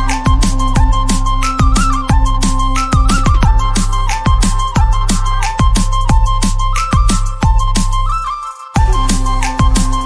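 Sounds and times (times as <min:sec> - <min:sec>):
deep thumping beat: 0:00.0 - 0:08.2, 0:08.8 - 0:10.0
sliding melody: 0:00.0 - 0:10.0.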